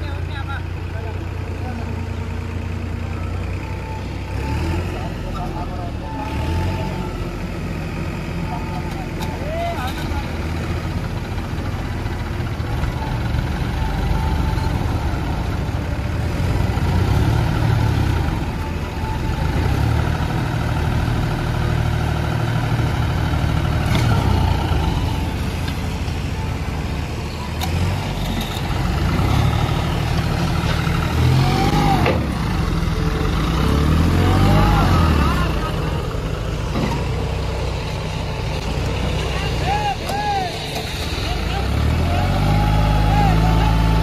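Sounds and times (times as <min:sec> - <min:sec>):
tractor diesel engines revving: 0:00.0 - 0:44.0.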